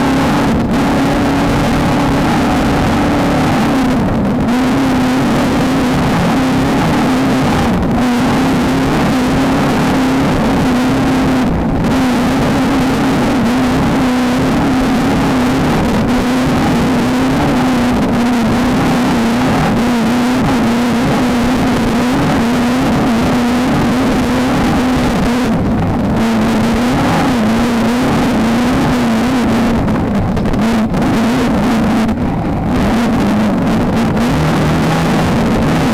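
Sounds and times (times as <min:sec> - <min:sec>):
race car engine revving high: 0:00.0 - 0:35.9
rough terrain noise: 0:00.0 - 0:35.9.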